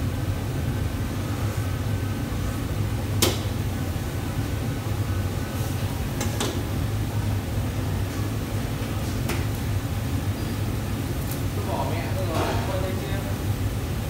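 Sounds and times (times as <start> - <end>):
low roar of kitchen stoves: 0.0 - 14.0.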